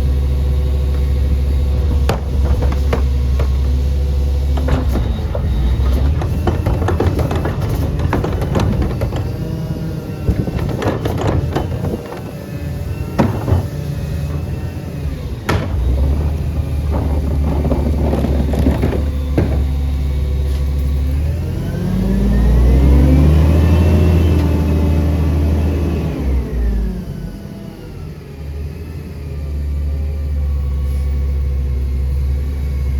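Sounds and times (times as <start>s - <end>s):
truck engine running and revving: 0.0s - 32.9s.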